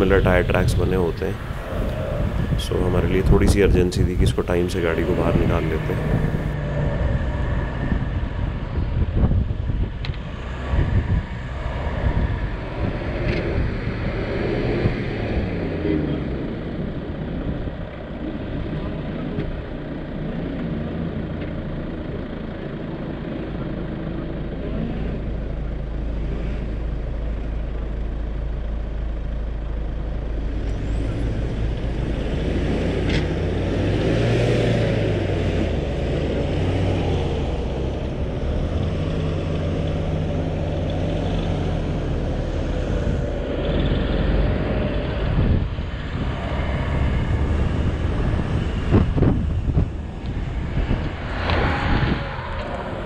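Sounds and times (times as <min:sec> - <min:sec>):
off-road vehicle engine under load: 0:00.0 - 0:53.0.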